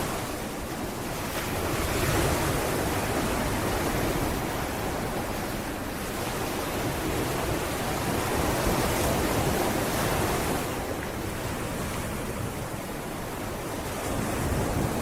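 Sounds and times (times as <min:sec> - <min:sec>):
sea waves washing onto beach: 0:00.0 - 0:15.0
wind on microphone: 0:00.0 - 0:15.0.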